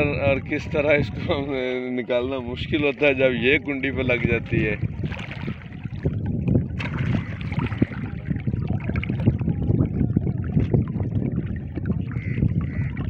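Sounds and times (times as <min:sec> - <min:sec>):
water sloshing in shallow river: 0:00.0 - 0:13.0
wind rumble on microphone: 0:00.0 - 0:13.0.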